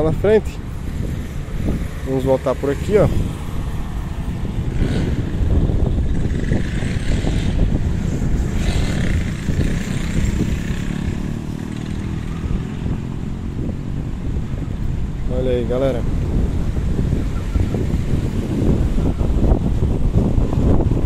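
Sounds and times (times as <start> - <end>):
street traffic passing: 0.0 - 21.0
wind buffeting microphone: 0.0 - 21.0.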